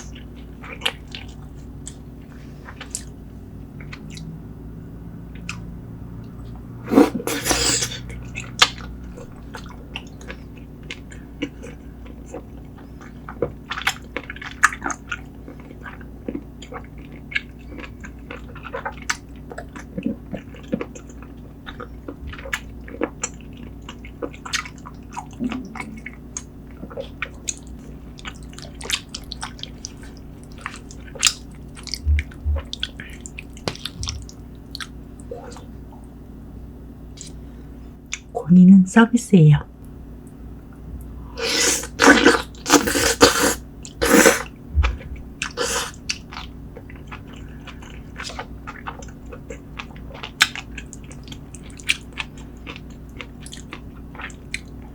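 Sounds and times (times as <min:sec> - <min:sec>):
chewing and wet mouth sounds: 0:00.0 - 0:04.3, 0:05.3 - 0:36.2, 0:37.1 - 0:37.4, 0:39.8 - 0:54.9.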